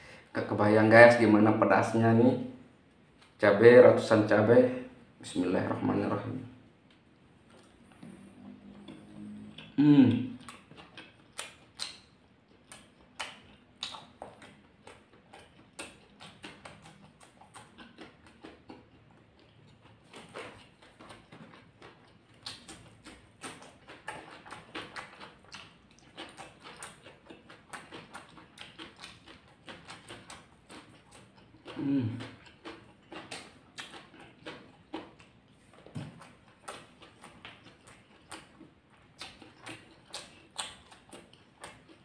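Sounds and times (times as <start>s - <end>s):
person chewing with wet smacks: 2.8s - 3.4s, 4.8s - 42.0s.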